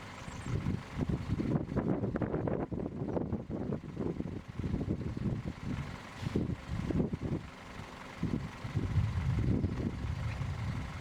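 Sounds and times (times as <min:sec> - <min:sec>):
gusty wind buffeting microphone: 0:00.4 - 0:07.5, 0:08.2 - 0:11.0.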